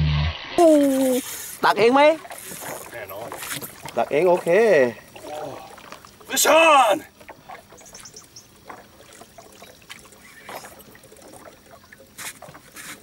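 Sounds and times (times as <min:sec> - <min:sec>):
water splashing: 0:00.4 - 0:13.0.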